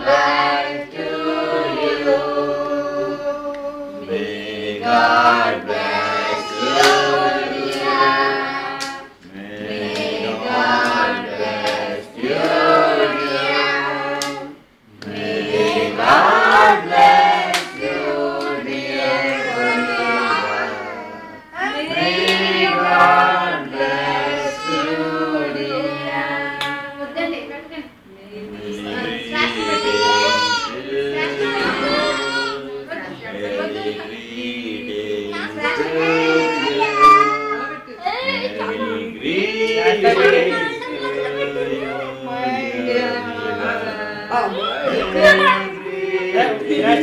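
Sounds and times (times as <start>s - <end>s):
people singing together: 0.0s - 47.0s.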